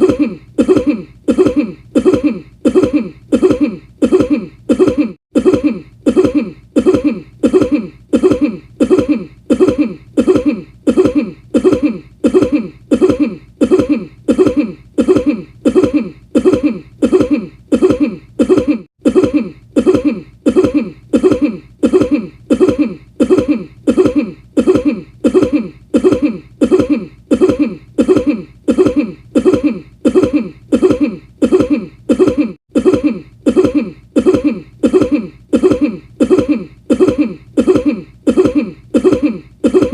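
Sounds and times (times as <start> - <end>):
short cough: 0.0 - 39.9.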